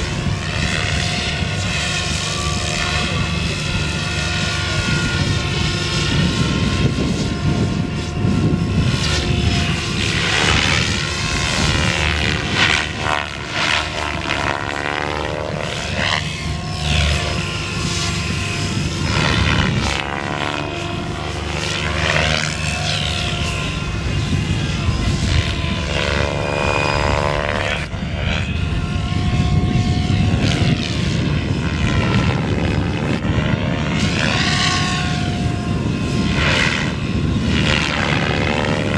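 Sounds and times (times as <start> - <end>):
rc helicopter rotor whine: 0.0 - 38.9.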